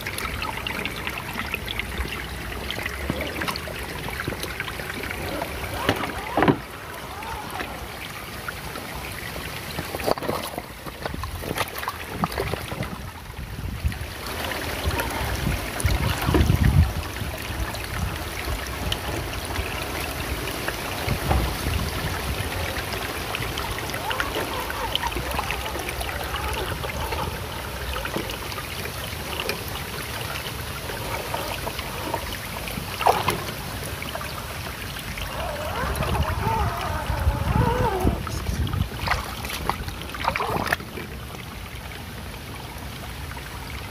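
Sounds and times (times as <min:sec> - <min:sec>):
water splashing and trickling: 0:00.0 - 0:43.9.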